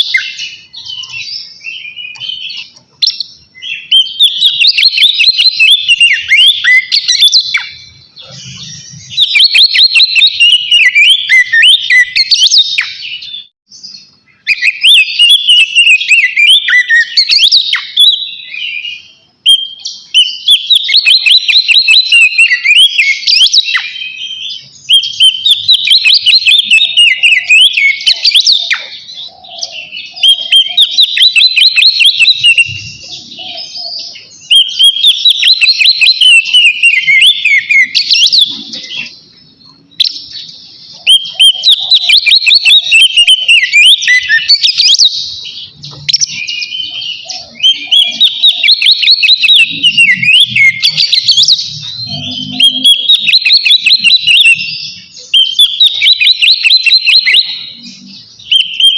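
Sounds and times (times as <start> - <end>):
bird singing whistles and trills: 0.0 - 58.9.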